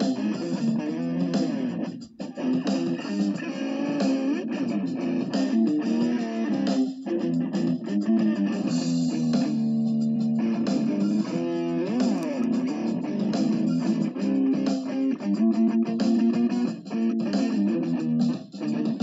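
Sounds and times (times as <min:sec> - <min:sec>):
guitar with pitch bends: 0:00.0 - 0:19.0.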